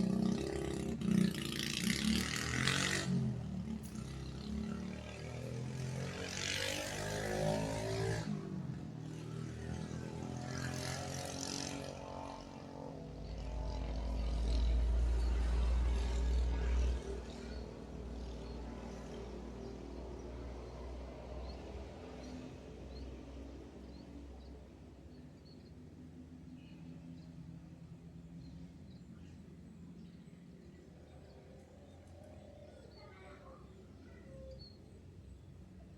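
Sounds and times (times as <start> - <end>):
vehicles passing: 0.0 - 35.9.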